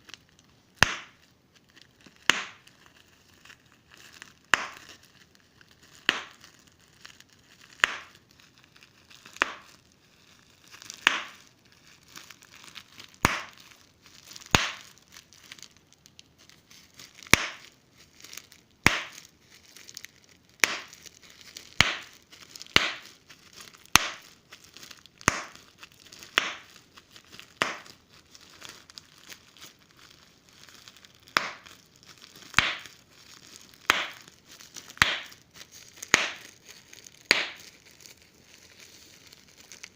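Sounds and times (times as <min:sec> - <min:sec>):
bubble wrap popping: 0:00.0 - 0:39.9
plastic crinkling: 0:00.0 - 0:39.9.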